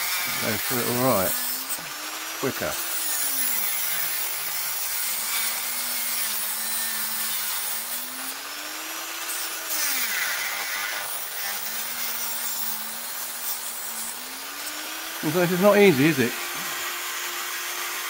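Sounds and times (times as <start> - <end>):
power tool cutting steel: 0.0 - 18.0.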